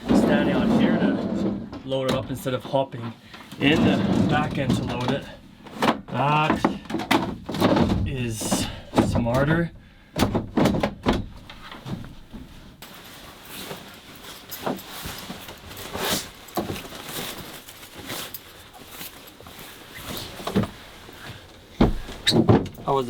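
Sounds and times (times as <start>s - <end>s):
camping gear knocking and rustling: 0.0s - 9.6s, 10.2s - 23.0s.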